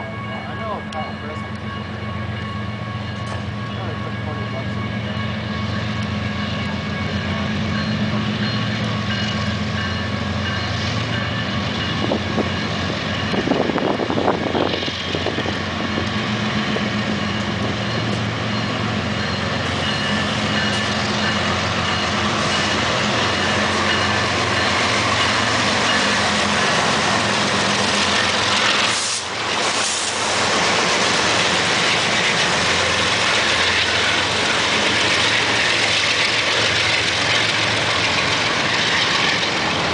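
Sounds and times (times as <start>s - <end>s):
diesel locomotive engine drone: 0.0s - 39.9s
train wheels on rails: 0.0s - 39.9s.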